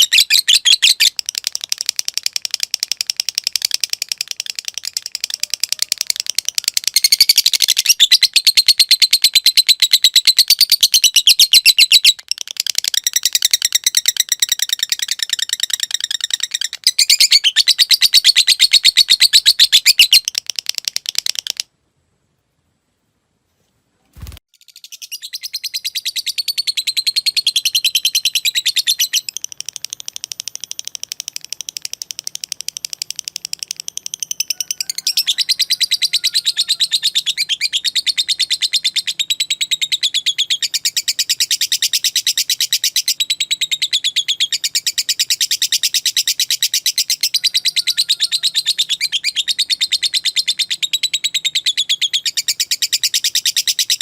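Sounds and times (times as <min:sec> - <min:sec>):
lovebird rapid ticking chatter: 0:00.0 - 0:21.7, 0:24.6 - 0:54.0.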